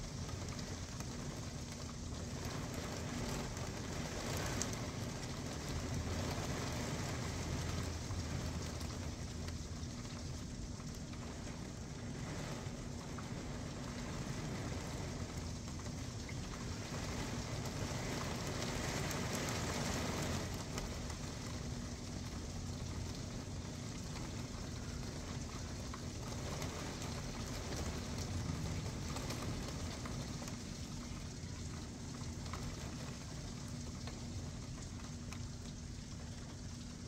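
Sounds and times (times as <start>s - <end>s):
heavy rain pattering: 0.0s - 37.0s.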